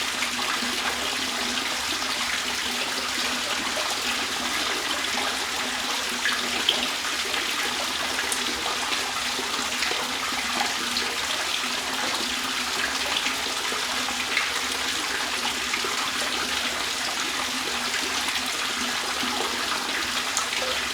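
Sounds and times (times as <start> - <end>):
water trickling and splashing: 0.0 - 20.9.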